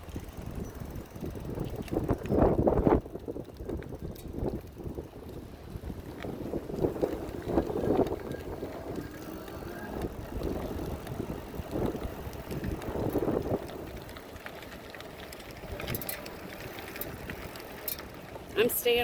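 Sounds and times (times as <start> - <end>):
electric bike rumble: 0.0 - 19.0
wind buffeting microphone: 0.0 - 19.0.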